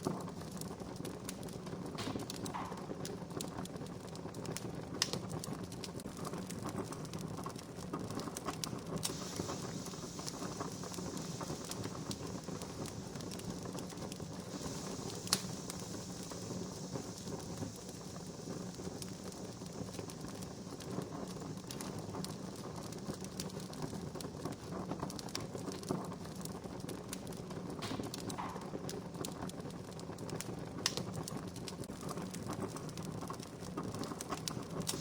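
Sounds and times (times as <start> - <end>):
sharp fire pops: 0.0 - 35.0
wood fire crackling: 0.0 - 35.0.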